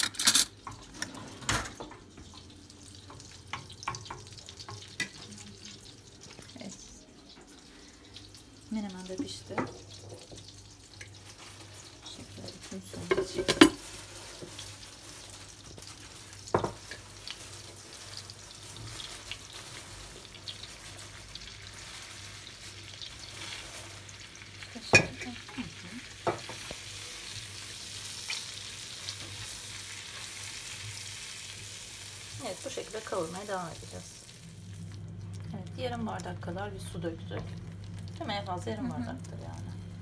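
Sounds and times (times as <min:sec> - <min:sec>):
cornmeal sizzling in butter: 0:01.8 - 0:40.0.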